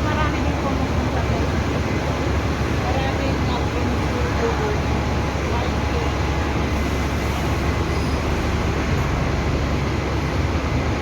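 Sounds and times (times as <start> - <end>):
bus engine rumbling: 0.0 - 11.0
road noise: 0.0 - 11.0.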